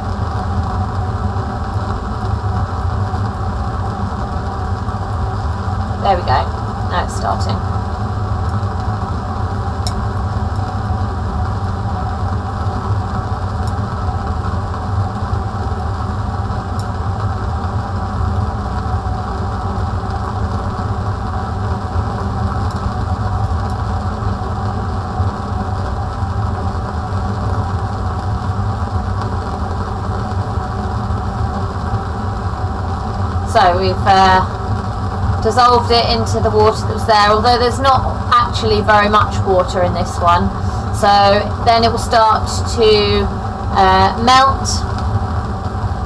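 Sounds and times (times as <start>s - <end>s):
extraction fan humming: 0.0s - 46.0s
gas burner flame: 0.0s - 46.0s.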